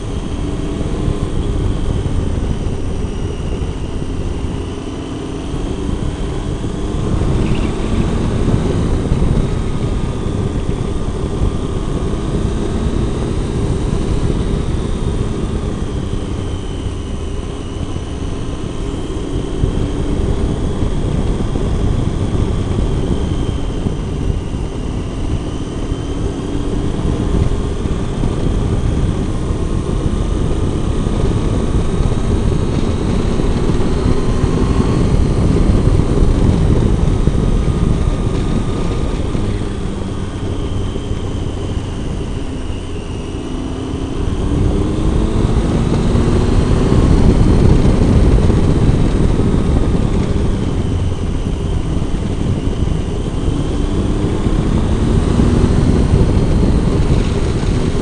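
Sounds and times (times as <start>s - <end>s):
heavy wind: 0.0s - 58.0s
motorcycle engine: 0.0s - 58.0s
road rumble: 0.0s - 58.0s.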